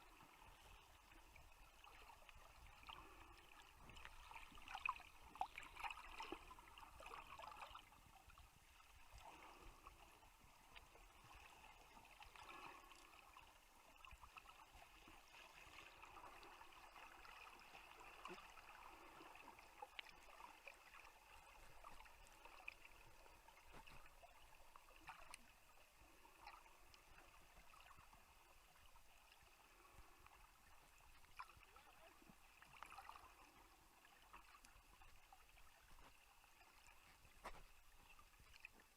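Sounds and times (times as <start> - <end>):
muffled water sloshing and gurgling: 0.0 - 38.9.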